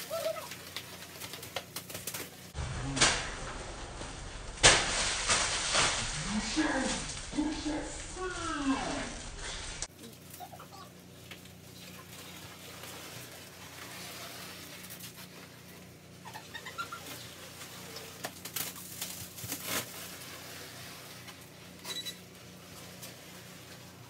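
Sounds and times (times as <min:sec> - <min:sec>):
plastic stretch wrap crackling: 0:00.0 - 0:02.6, 0:03.2 - 0:24.0.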